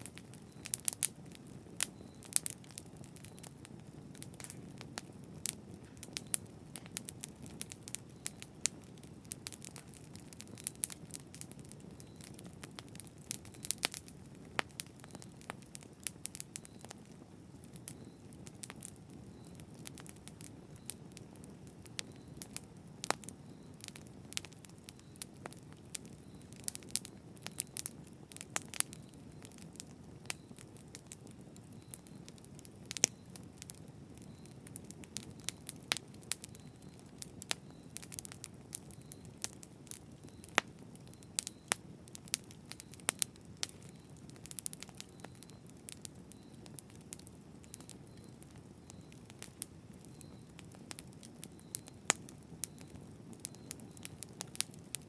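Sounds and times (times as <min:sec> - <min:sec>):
burning wood crackling: 0:00.0 - 0:55.0.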